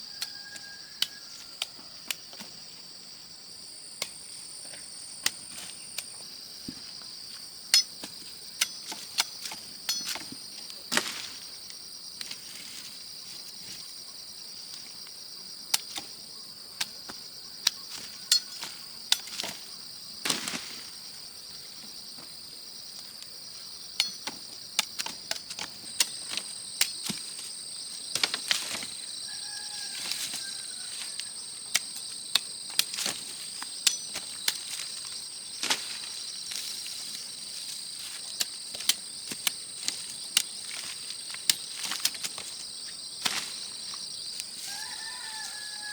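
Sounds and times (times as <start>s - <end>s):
high-pitched insect chorus: 0.0s - 45.9s
higher insect: 0.0s - 45.9s.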